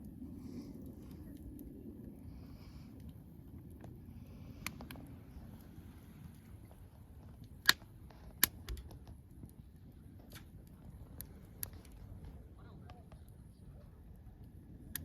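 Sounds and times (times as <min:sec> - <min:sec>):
campfire crackling and popping: 0:00.0 - 0:15.0
loud snaps of fire: 0:00.0 - 0:15.0
low steady rumble: 0:00.0 - 0:15.0.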